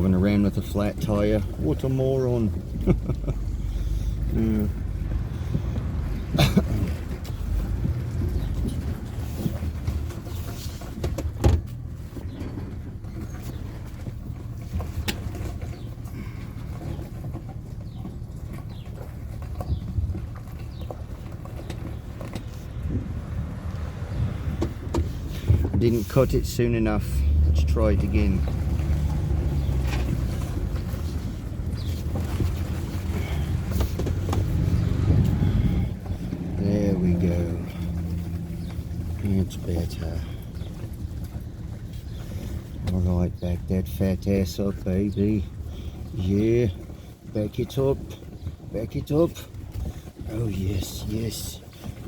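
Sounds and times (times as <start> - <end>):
vehicle engine low rumble: 0.0 - 52.0.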